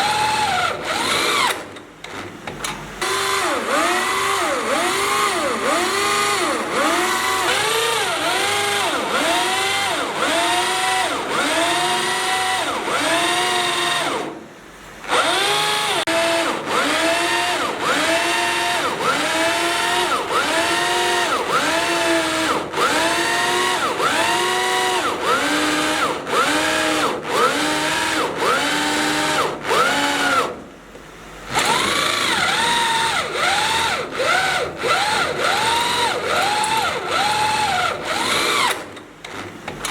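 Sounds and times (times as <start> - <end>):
power drill boring into steel: 0.0 - 1.6, 3.0 - 14.3, 15.1 - 30.6, 31.5 - 38.9.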